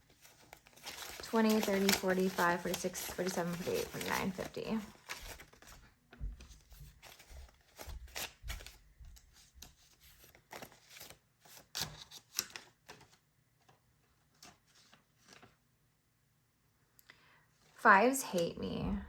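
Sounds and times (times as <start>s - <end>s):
banknotes rustling and snapping: 0.0s - 15.6s.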